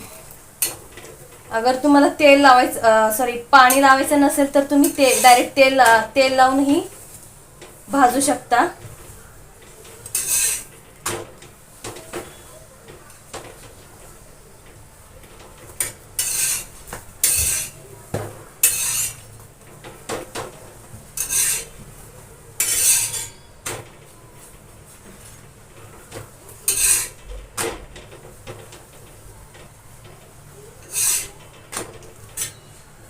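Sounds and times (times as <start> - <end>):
metal utensil scraping griddle: 0.0 - 7.3, 7.9 - 33.0.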